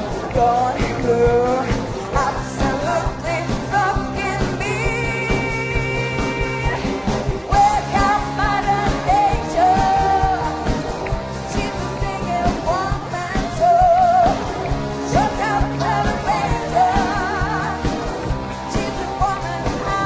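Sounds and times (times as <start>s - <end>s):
live pop-rock band playing: 0.0s - 20.0s
woman singing with vibrato: 0.1s - 20.0s.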